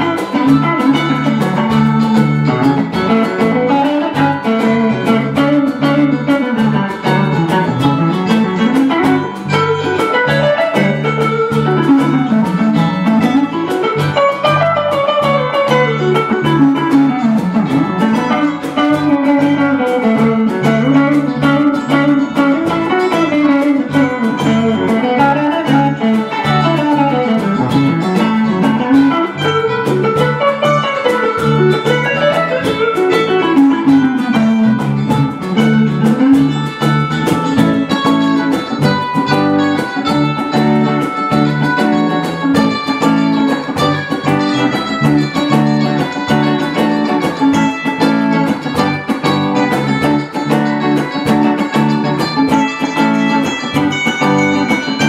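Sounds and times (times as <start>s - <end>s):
bass line: 0.0s - 55.0s
cajon beat: 0.0s - 55.0s
electric guitar runs: 0.0s - 55.0s.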